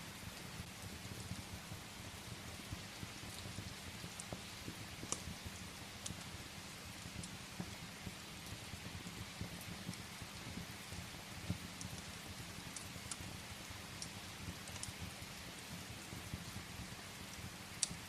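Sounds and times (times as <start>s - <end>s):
firewood crackling: 0.0s - 18.0s
rain against a window: 0.0s - 18.0s.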